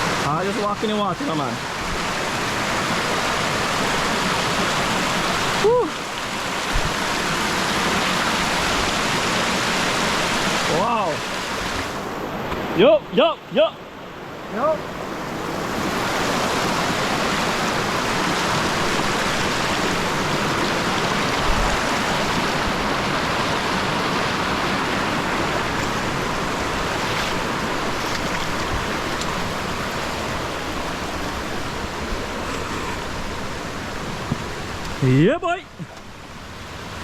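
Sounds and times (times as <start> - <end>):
river rushing over rocks: 0.0 - 37.0.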